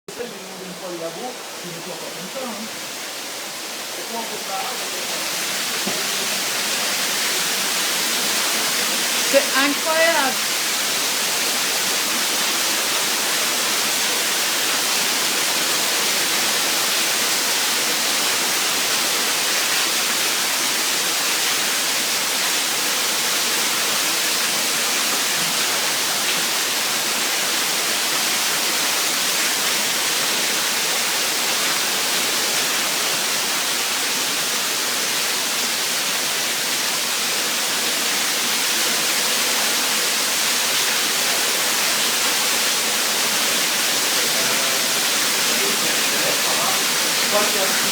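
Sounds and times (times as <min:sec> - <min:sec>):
torrential rain pouring: 0:00.1 - 0:47.9.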